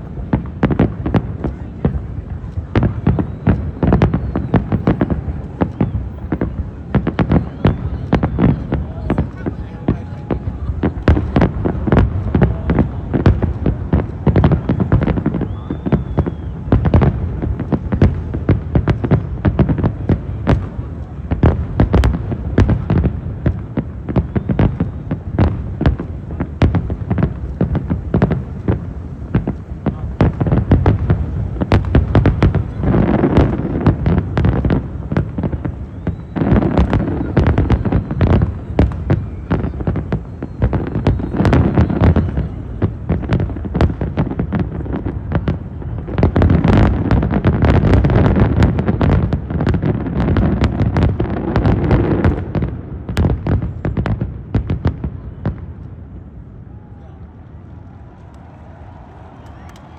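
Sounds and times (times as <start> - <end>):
fireworks bursts and booms: 0.0 - 59.9.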